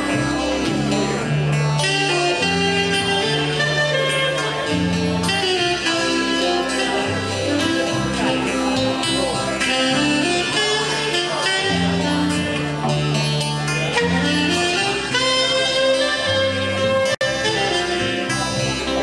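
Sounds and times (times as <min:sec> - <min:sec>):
live band playing slow song: 0:00.0 - 0:19.0.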